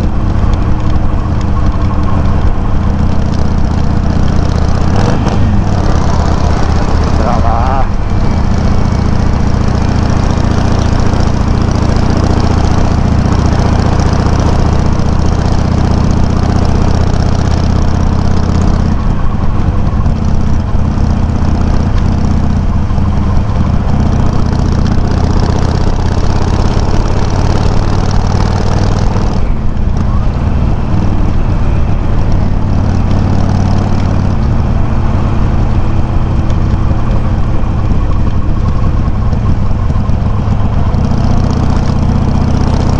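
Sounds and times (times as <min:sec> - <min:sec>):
motorcycle engine running at low revs: 0:00.0 - 0:42.9.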